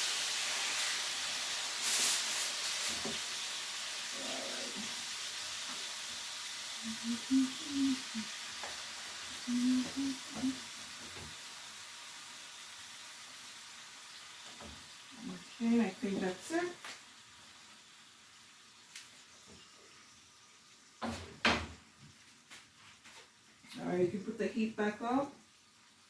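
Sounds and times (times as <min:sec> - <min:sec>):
chicken sizzling in frying pan: 0:00.0 - 0:22.0, 0:22.6 - 0:26.0.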